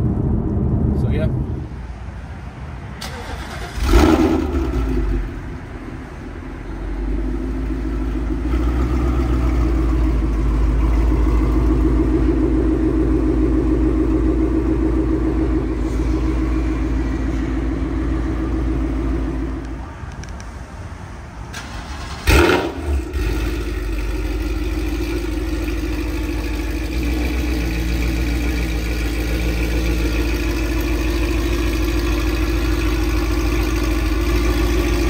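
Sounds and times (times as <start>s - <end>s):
car engine starting with loud flare: 2.9s - 19.8s, 21.5s - 35.0s
car engine idling: 3.0s - 20.6s, 21.5s - 35.0s.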